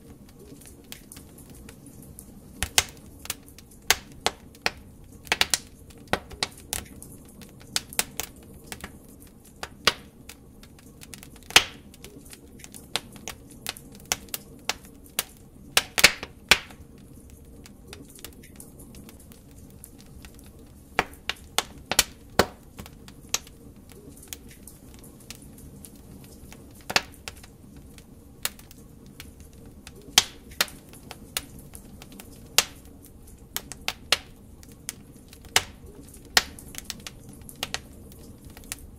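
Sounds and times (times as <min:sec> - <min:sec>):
low steady hiss: 0:00.0 - 0:38.9
wood fire crackling: 0:00.0 - 0:38.9.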